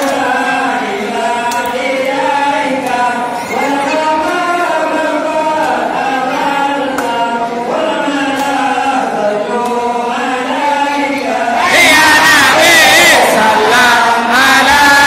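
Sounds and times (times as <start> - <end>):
voices chanting in unison: 0.0 - 15.0.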